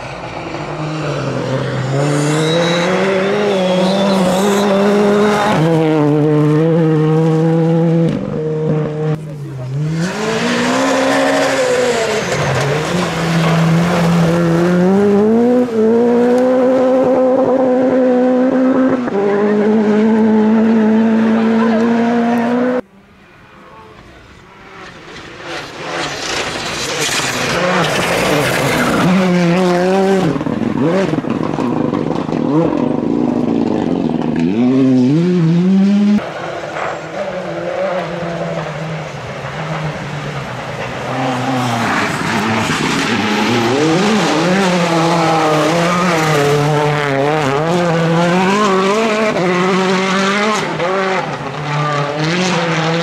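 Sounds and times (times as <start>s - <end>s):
rally car engine revving: 0.0s - 22.9s, 24.0s - 53.0s.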